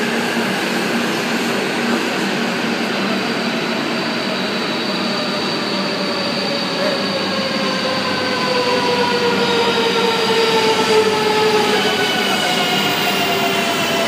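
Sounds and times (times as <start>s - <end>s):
train braking whine: 0.0s - 14.0s
train rush and rumble: 0.0s - 14.0s.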